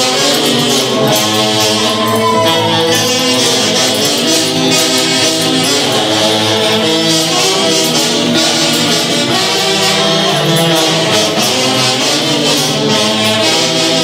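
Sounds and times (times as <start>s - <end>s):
band playing a dance tune: 0.0s - 14.0s.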